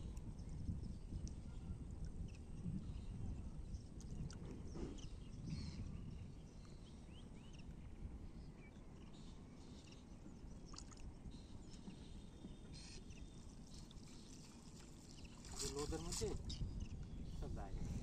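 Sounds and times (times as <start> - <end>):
small birds chirping: 0.0 - 7.8, 8.4 - 18.0.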